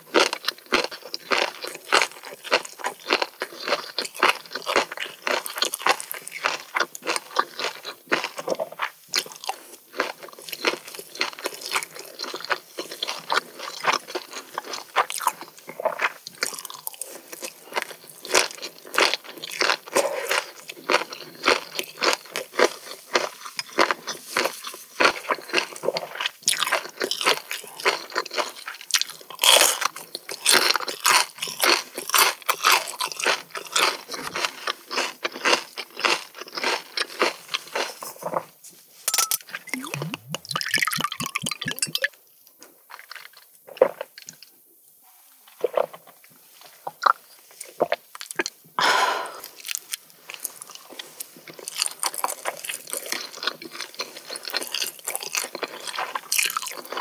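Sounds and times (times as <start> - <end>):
chewing crunchy seaweed: 0.0 - 38.6, 39.5 - 44.5, 45.5 - 57.0.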